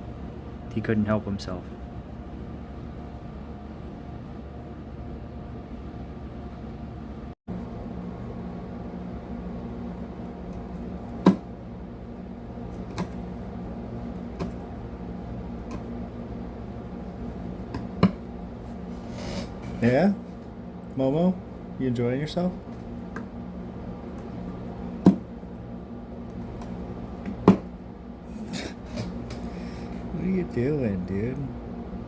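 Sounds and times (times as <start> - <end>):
low appliance hum: 0.0 - 32.0.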